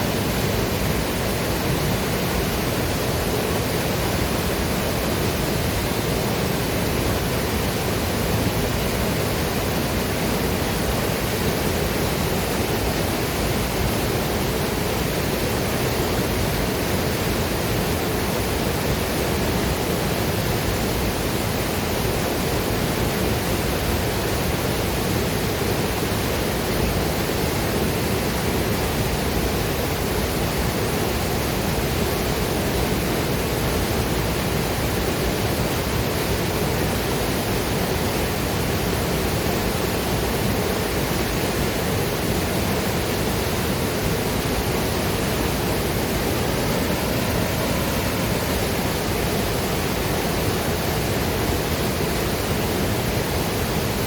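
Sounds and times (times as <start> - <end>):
waterfall and river rushing: 0.0 - 54.0.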